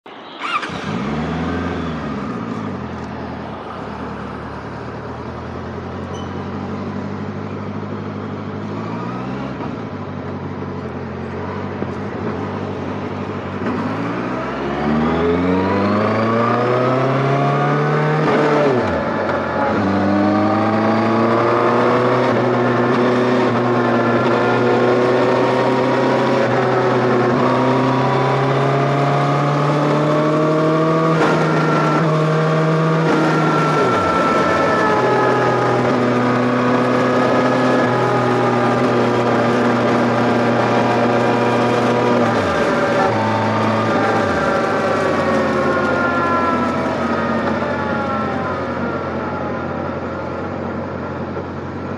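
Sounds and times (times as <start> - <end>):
wind and road noise: 0.0 - 51.9
motorcycle engine accelerating: 0.2 - 51.9.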